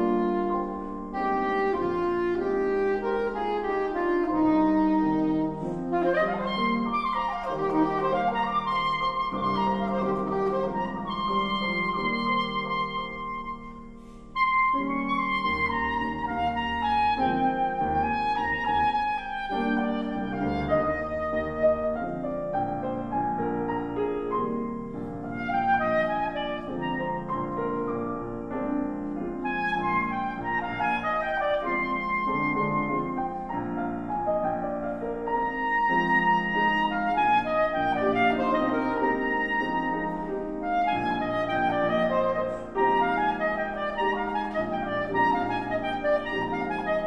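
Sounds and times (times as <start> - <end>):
piano accompaniment: 0.0 - 47.0
soprano saxophone melody: 0.0 - 47.0.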